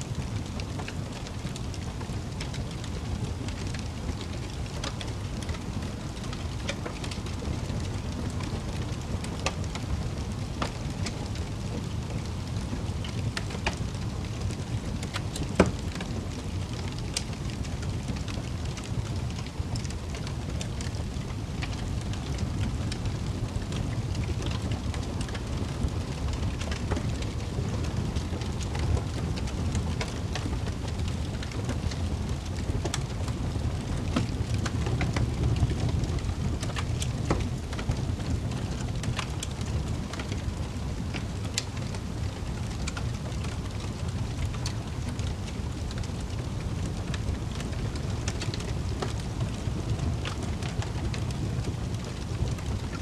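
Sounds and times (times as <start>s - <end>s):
wood fire crackling: 0.0s - 53.0s
fire pops and snaps: 0.2s - 53.0s.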